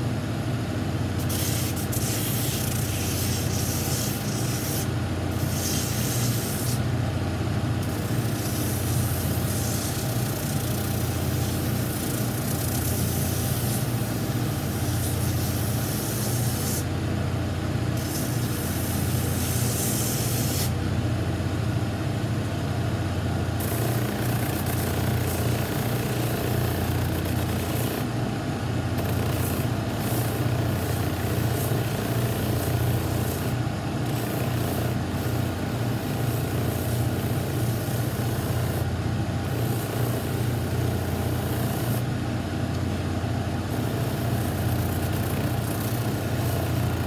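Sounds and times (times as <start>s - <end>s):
sanding wheel grinding sole: 1.2s - 6.9s, 7.8s - 16.9s, 18.0s - 20.8s, 23.6s - 28.1s, 29.0s - 42.0s, 43.7s - 47.0s.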